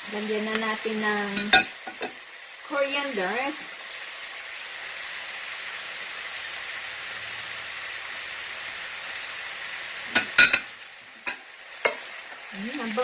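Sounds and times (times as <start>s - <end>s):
noodles sizzling in skillet: 0.0s - 13.0s.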